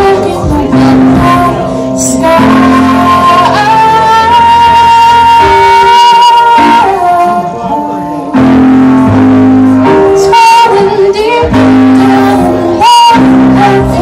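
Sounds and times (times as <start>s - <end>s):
guitar: 0.0s - 14.0s
live band music: 0.0s - 14.0s
person singing: 0.0s - 14.0s.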